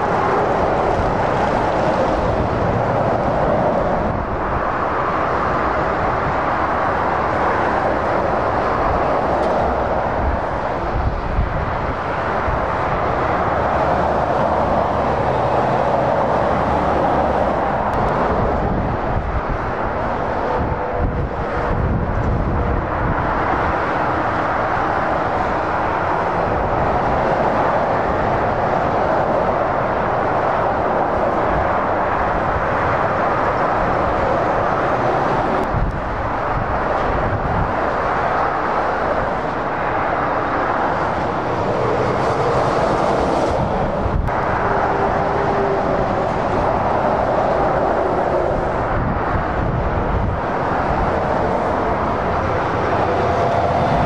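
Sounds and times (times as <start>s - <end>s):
heavy motorway traffic rushing: 0.0s - 54.0s.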